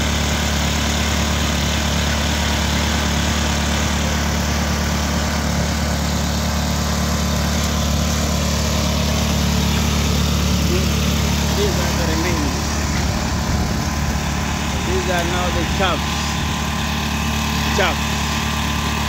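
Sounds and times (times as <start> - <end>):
thresher engine droning: 0.0 - 19.0.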